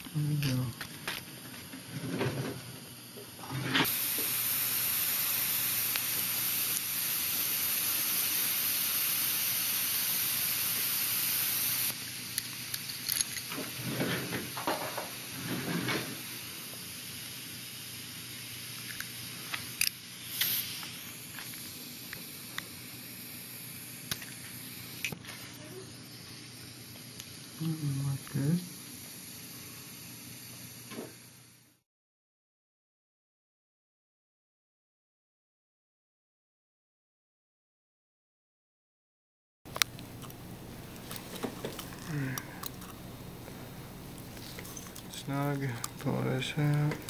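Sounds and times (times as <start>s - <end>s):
dental equipment air hissing: 1.0s - 31.8s, 40.1s - 47.0s.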